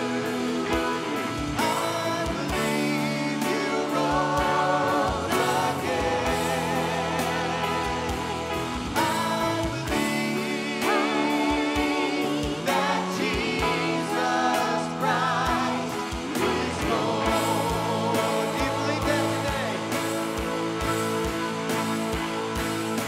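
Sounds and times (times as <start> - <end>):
electric guitar: 0.0 - 23.0
keyboard: 0.0 - 23.0
steady drum beat: 0.0 - 23.0
voices singing with vibrato: 0.0 - 23.0.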